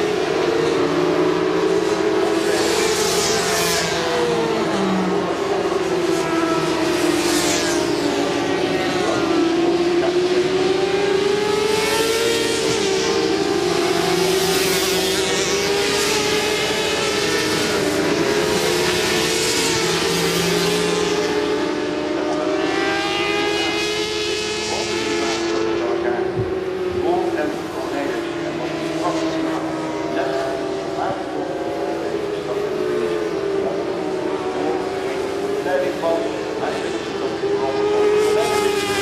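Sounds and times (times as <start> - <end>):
racing motorcycles passing at high revs: 0.0 - 39.0
steady engine drone: 0.0 - 39.0.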